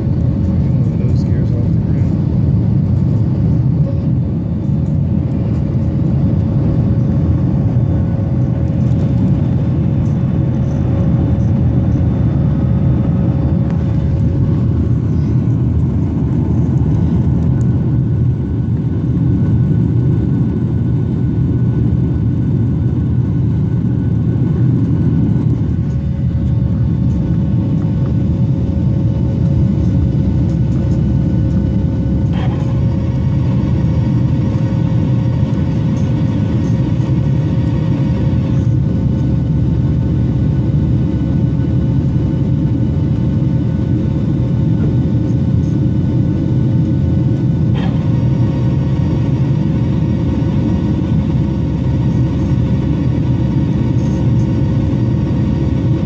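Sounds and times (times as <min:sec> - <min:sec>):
faint engine whine: 0:00.0 - 0:56.0
jet engines rumbling in cabin: 0:00.0 - 0:56.0.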